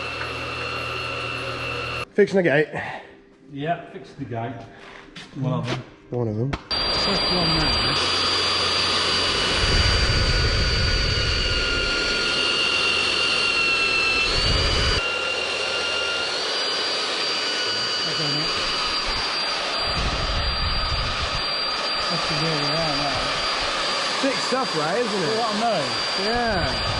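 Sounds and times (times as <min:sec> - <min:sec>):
electric drill boring into steel: 0:00.0 - 0:02.1, 0:06.7 - 0:26.9.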